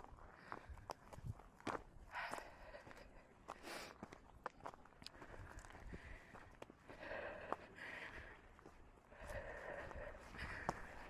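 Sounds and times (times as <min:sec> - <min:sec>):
crunching footsteps: 0:00.0 - 0:11.0.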